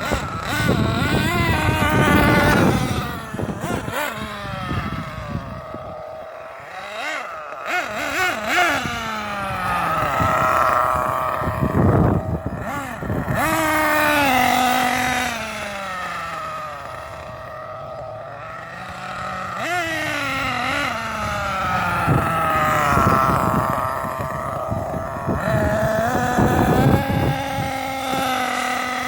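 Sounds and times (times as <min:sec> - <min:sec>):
small nitro engine revving: 0:00.0 - 0:29.0
wind buffeting microphone: 0:00.0 - 0:29.0.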